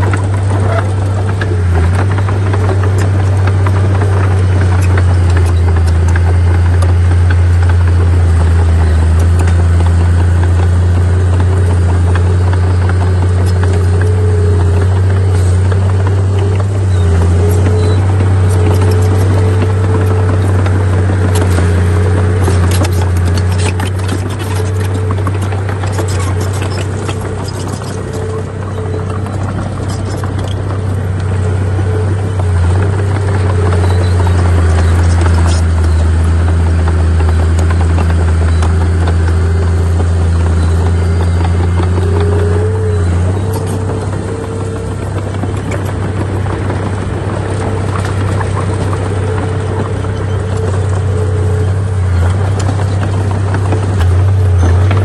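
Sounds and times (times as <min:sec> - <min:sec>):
clanks and rattles: 0:00.0 - 0:55.0
diesel machinery engine drone: 0:00.0 - 0:55.0.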